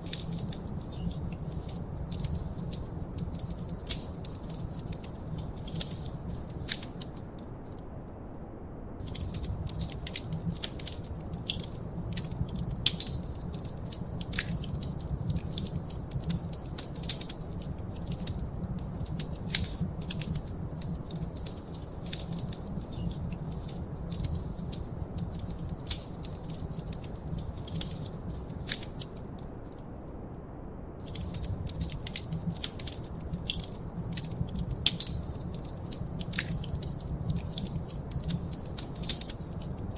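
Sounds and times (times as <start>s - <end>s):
low fire rumble: 0.0s - 7.7s, 8.5s - 29.8s, 30.4s - 39.9s
wood fire crackling: 0.0s - 8.0s, 9.0s - 29.9s, 31.0s - 39.9s.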